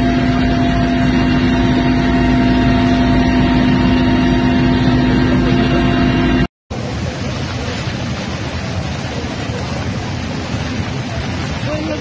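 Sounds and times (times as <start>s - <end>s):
aircraft engine drone in cabin: 0.0s - 12.0s.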